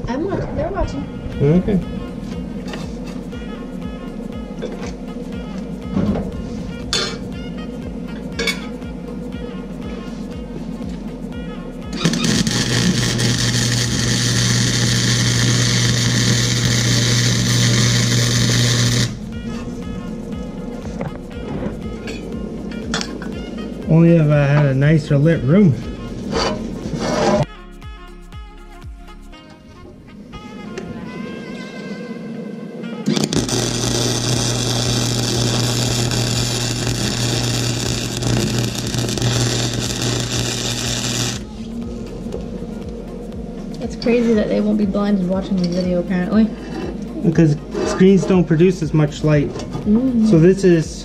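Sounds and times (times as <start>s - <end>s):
low hum: 0.0s - 51.0s
welder arc sizzling: 0.6s - 27.5s, 32.9s - 49.5s.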